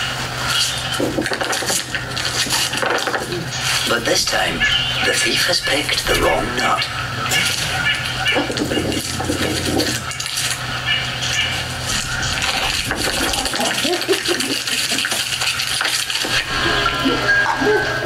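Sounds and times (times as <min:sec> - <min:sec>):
squirrel scratching and rattling: 0:00.5 - 0:06.7, 0:07.3 - 0:16.9.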